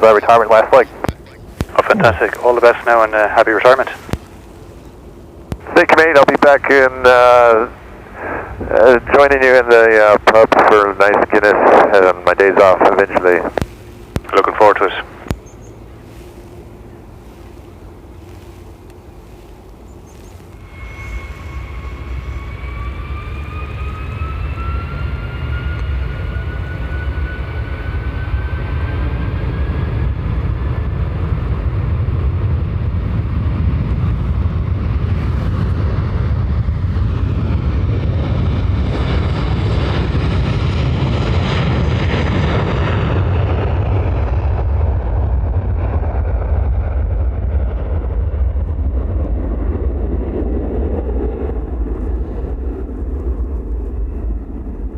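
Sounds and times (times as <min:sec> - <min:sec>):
jet engine whine: 0:00.0 - 0:54.9
jet engines at takeoff: 0:00.0 - 0:54.9
jet passing rumble: 0:00.0 - 0:54.9.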